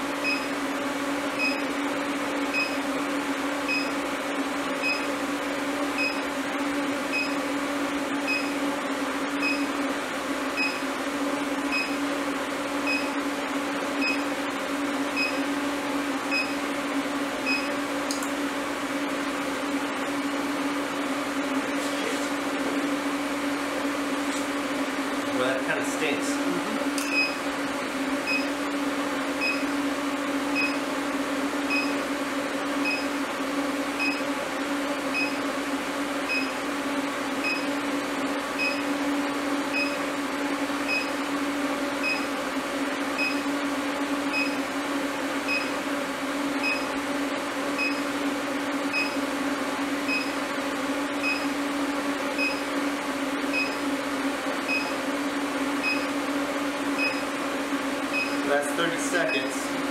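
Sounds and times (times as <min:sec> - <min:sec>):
induction heater electrical hum: 0:00.0 - 0:59.9.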